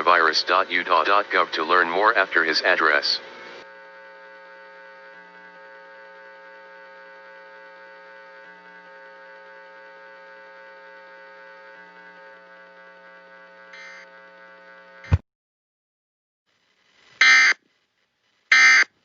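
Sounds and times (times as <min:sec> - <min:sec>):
electrical hum drone: 0:00.0 - 0:15.2.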